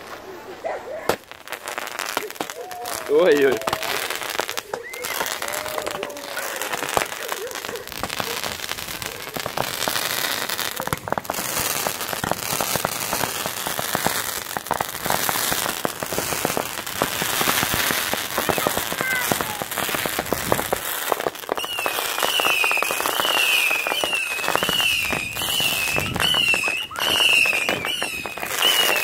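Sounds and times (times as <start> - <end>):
crackling pops: 0.0 - 29.0
fireworks firing shots: 1.1 - 29.0.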